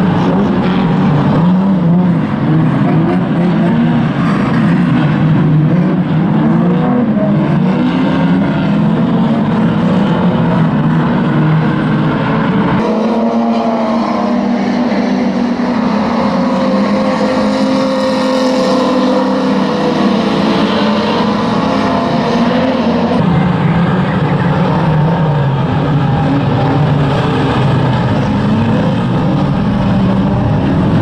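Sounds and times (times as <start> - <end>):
racing car engines revving: 0.0 - 31.0.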